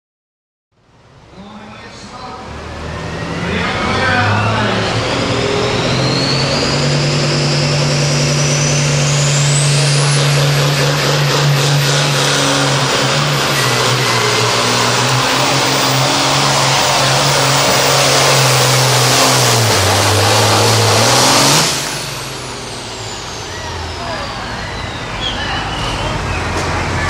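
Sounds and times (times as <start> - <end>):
tractor engine under load: 1.4 - 27.0.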